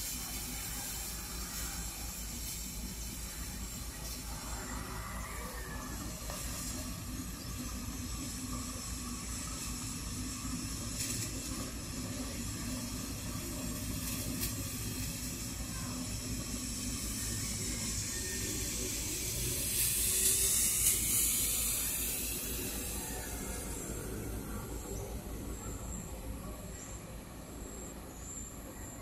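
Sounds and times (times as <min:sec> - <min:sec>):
smoke device hissing: 0:00.0 - 0:29.0.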